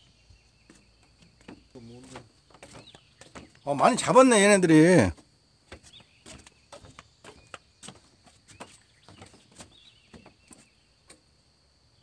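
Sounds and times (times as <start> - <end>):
footsteps on wooden boards: 0.0 - 11.3.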